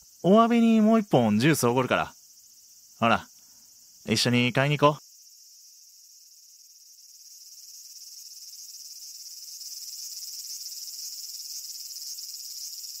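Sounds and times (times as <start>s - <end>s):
high-pitched insects chorus: 0.0s - 13.0s.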